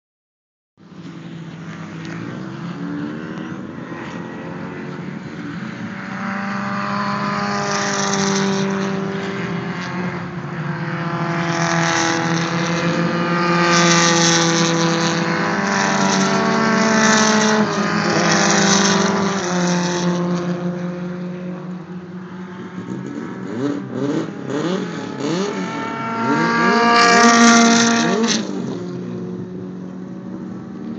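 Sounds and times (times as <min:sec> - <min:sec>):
race car engines: 0:00.8 - 0:30.9.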